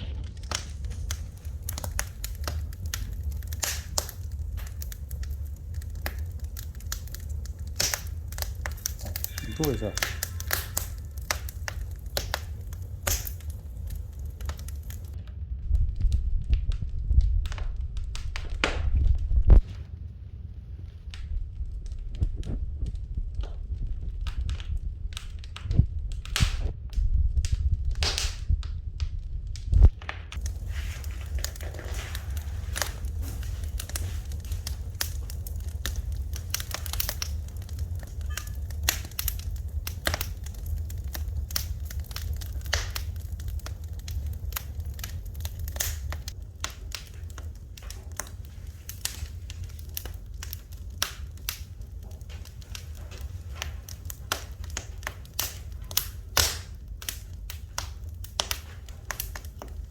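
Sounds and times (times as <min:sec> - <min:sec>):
low rumble: 0:00.0 - 0:59.9
wood fire crackling: 0:00.0 - 0:59.9.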